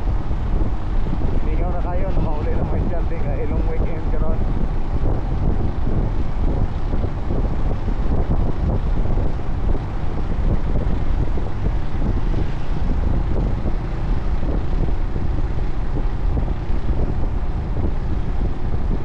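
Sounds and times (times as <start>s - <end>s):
motorcycle engine rumble: 0.0s - 19.0s
wind buffeting microphone: 0.0s - 19.0s.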